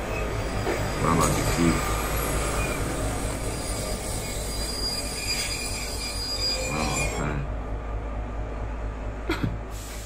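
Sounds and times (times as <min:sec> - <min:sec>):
train rumbling on rails: 0:00.0 - 0:10.0.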